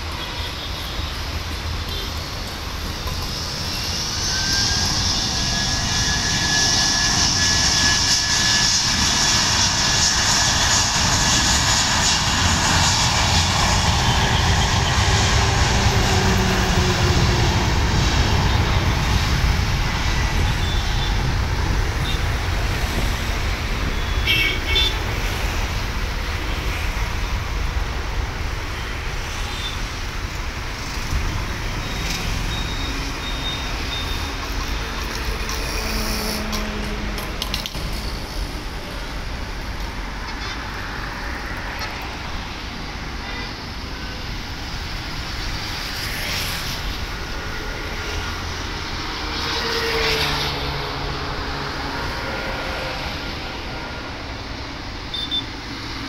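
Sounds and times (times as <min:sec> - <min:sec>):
jet engines rumbling: 0:00.0 - 0:56.0
road traffic noise: 0:00.0 - 0:56.0.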